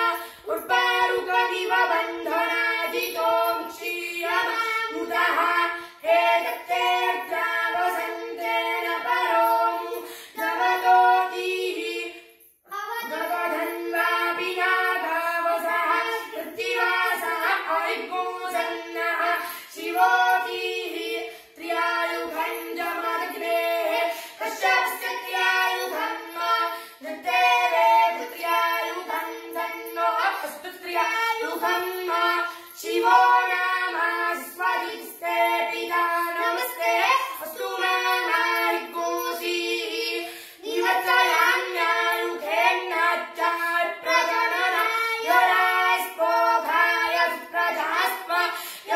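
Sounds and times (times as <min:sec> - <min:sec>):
boy chanting: 0:00.0 - 0:48.9.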